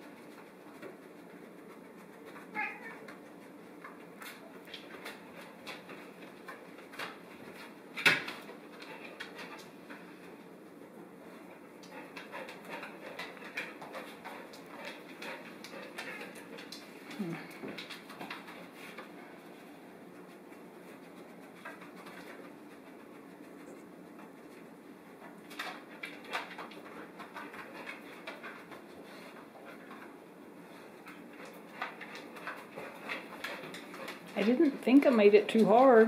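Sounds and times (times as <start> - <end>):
dog nails clicking on floor: 0.0 - 10.3, 11.5 - 19.2, 20.1 - 36.0.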